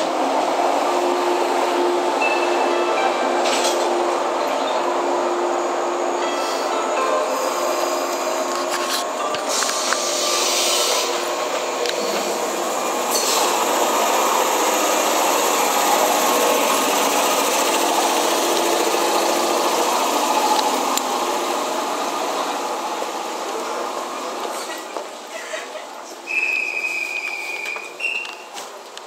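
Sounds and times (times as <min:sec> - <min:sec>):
electric train machinery running: 0:00.0 - 0:29.0.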